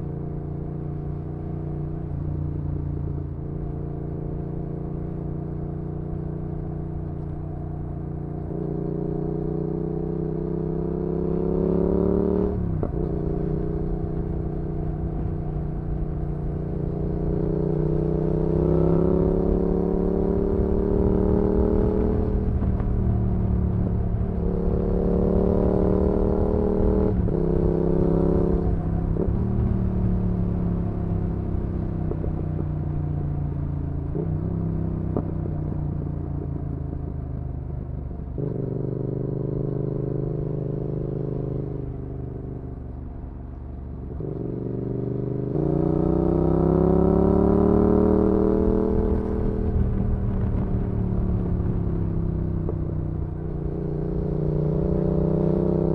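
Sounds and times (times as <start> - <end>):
motorcycle engine revving: 8.3 - 43.0, 44.0 - 55.9.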